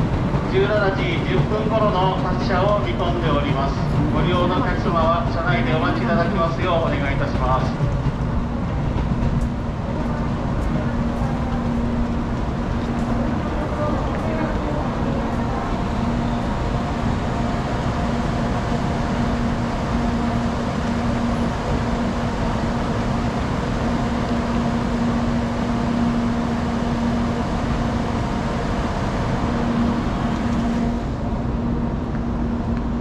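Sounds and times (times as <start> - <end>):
station noise: 0.0 - 32.8
train equipment humming: 0.0 - 33.0.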